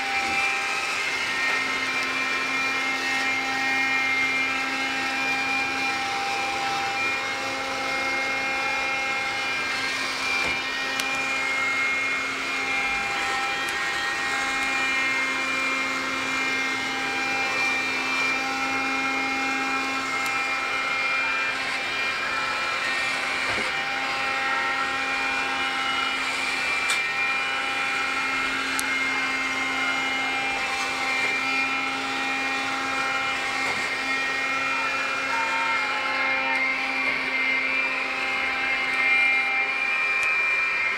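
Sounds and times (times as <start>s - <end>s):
floor-washing robot motor whine: 0.0s - 40.9s.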